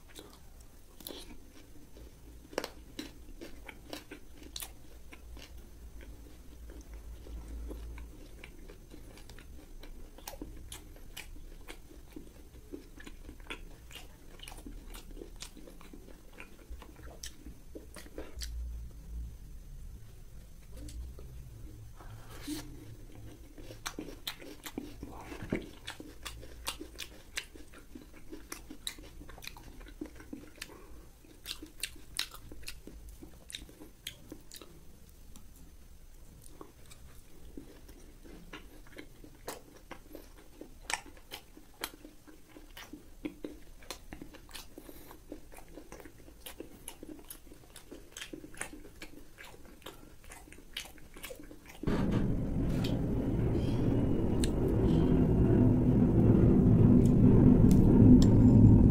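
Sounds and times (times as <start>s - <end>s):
chewing crunchy food: 0.0s - 18.6s, 22.2s - 51.9s.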